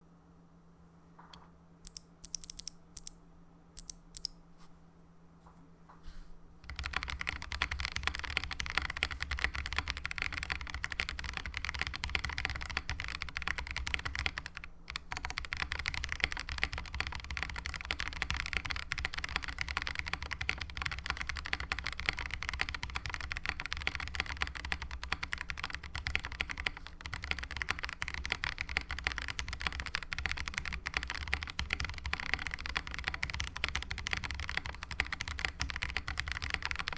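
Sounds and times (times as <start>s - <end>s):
mechanical keyboard typing: 1.8s - 3.2s, 3.8s - 4.3s, 6.6s - 36.9s.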